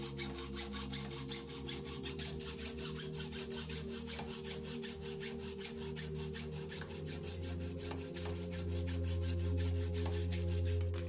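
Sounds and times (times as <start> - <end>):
background music: 0.0 - 11.0
saw rasping through metal: 0.0 - 11.0.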